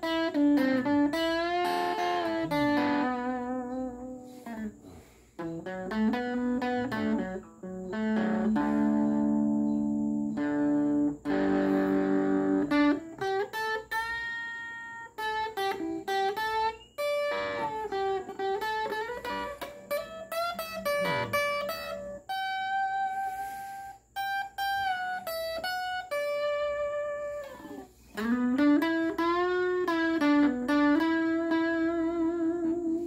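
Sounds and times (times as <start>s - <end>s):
solo guitar playing: 0.0s - 33.0s.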